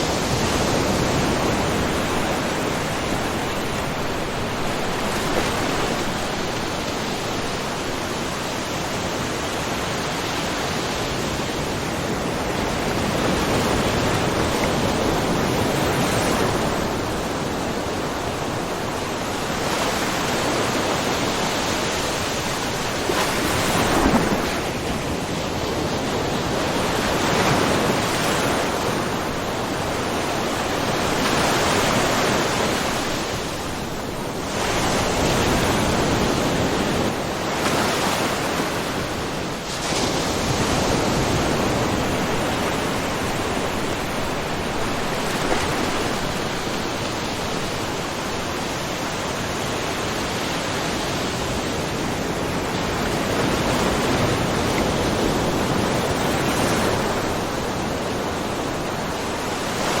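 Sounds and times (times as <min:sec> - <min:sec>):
waves splashing over rocks: 0:00.0 - 1:00.0.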